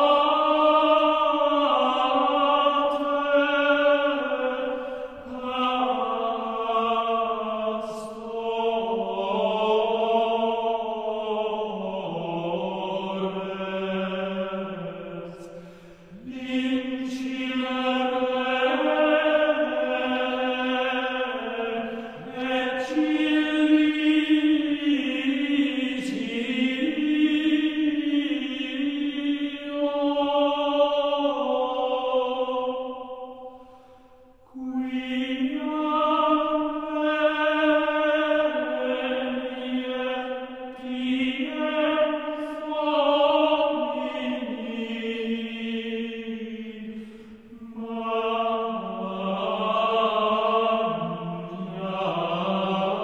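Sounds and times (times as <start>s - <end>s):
choir chanting in unison: 0.0s - 53.0s.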